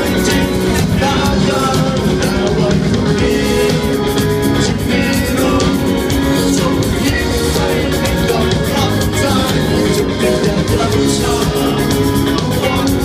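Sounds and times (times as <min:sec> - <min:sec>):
man singing: 0:00.0 - 0:13.0
rock band playing live: 0:00.0 - 0:13.0.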